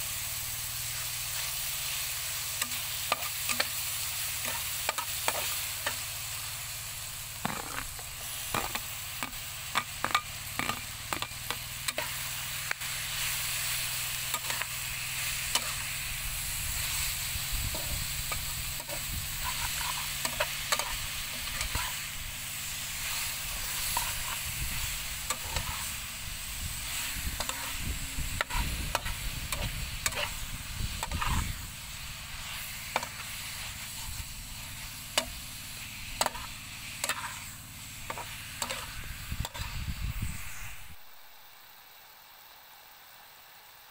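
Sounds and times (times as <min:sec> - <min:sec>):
food sizzling in a frying pan: 0:00.0 - 0:42.1
metal spatula scraping a pan: 0:00.9 - 0:26.2, 0:26.8 - 0:41.0.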